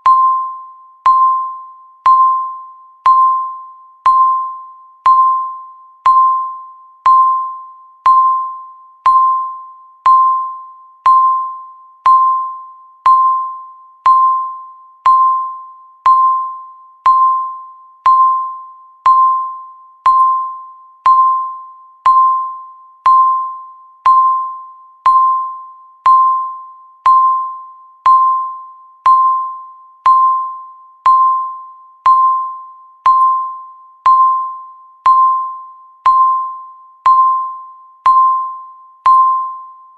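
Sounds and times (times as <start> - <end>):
timer beeping chime: 0.0 - 39.9.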